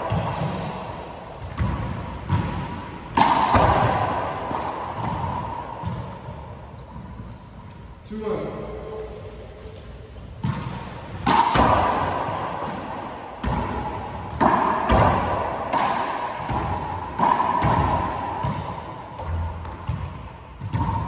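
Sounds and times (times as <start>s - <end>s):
handball smacks with ringing echo: 0.0s - 6.4s, 10.4s - 21.0s.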